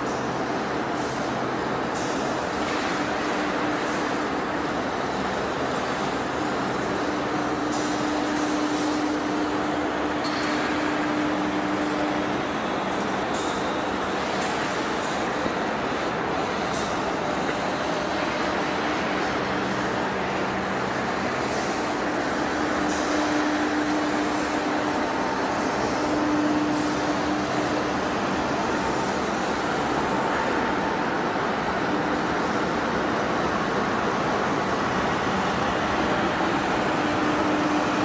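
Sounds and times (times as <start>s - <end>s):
lathe machinery droning: 0.0s - 38.0s.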